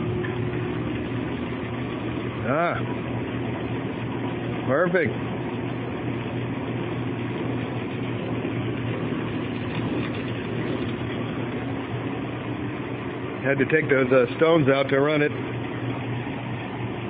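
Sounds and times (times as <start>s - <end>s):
grinder motor humming: 0.0s - 17.0s.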